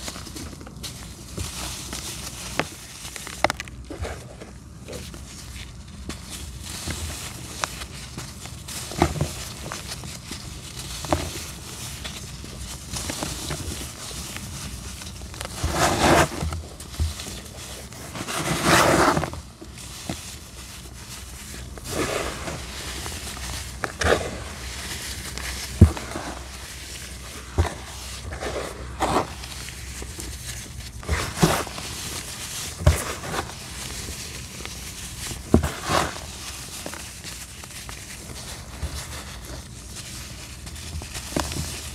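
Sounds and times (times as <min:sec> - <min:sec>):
powder sifting through fingers: 0:00.0 - 0:41.9.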